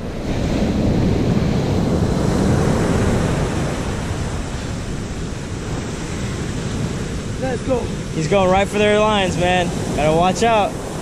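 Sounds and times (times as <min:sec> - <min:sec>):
ocean surf breaking: 0:00.0 - 0:11.0
wind rumbling on microphone: 0:00.0 - 0:11.0.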